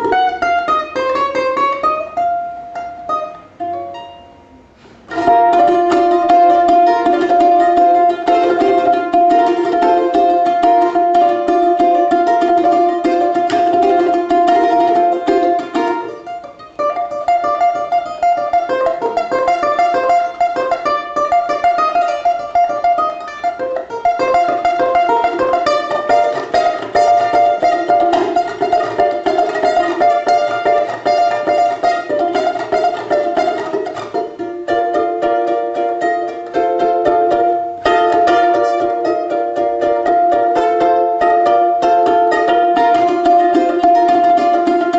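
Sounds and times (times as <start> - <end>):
fast-picked string instrument music: 0.0 - 4.2, 5.0 - 44.9.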